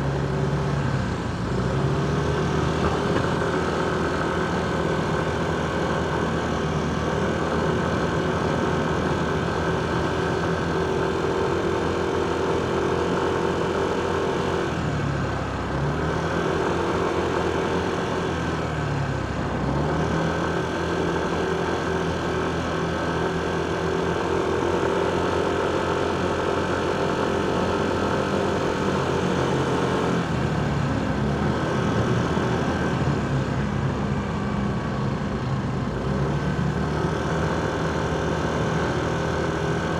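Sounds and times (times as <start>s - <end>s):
surrounding traffic: 0.0s - 39.9s.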